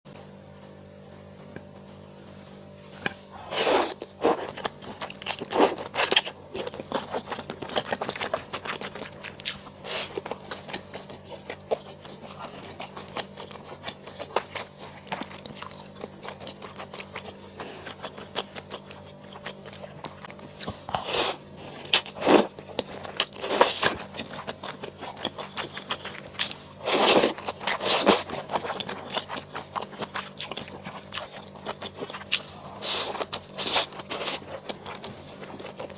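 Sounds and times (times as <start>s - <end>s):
crunchy bites and chewing: 2.9s - 35.9s.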